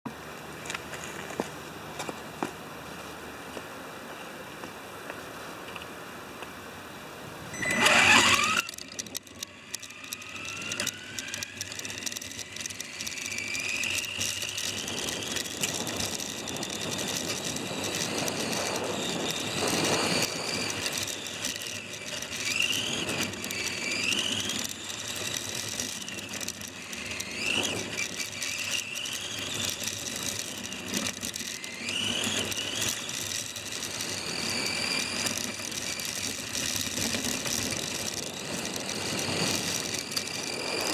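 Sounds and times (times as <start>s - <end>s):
toy car electric motor whining: 7.5s - 40.9s.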